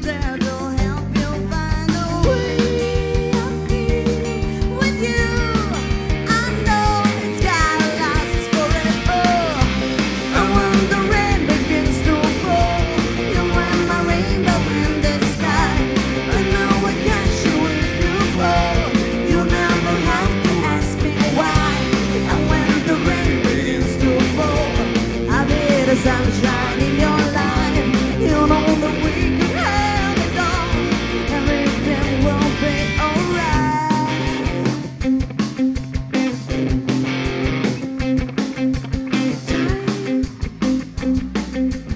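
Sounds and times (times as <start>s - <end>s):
woman singing lead vocal: 0.0s - 34.9s, 39.2s - 40.4s
bass guitar: 0.0s - 41.9s
drum kit: 0.0s - 41.9s
electric guitar: 0.0s - 41.9s.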